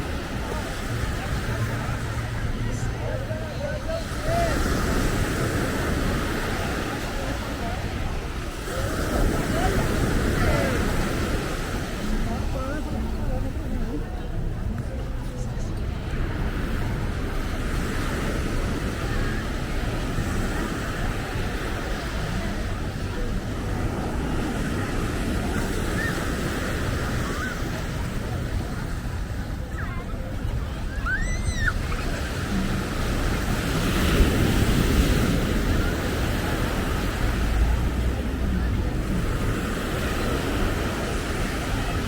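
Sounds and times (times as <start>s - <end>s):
ocean surf washing ashore: 0.0s - 42.0s.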